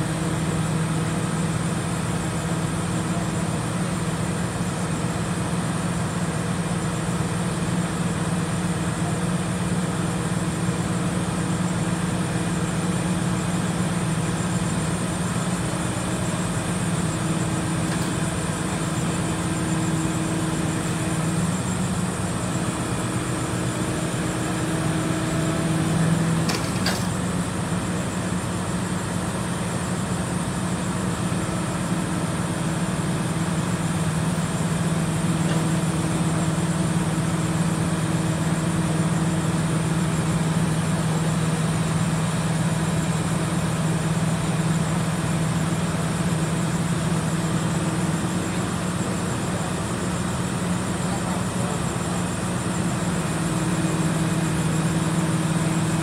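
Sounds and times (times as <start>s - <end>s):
crane engine running: 0.0s - 56.0s.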